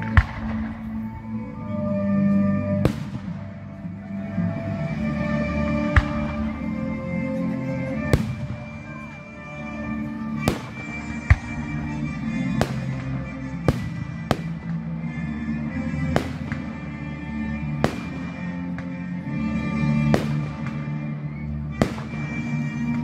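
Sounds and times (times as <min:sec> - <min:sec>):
music playing: 0:00.0 - 0:23.0.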